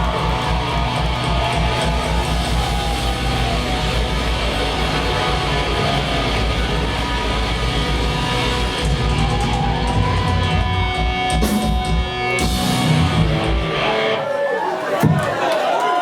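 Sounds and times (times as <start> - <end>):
electric guitar: 0.0 - 14.2
punk rock band playing live: 0.0 - 14.2.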